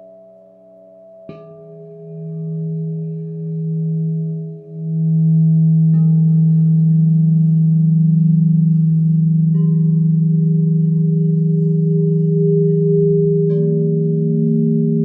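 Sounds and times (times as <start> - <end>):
crystal singing bowls ringing: 0.0 - 15.0
deep sustained tone: 0.0 - 15.0.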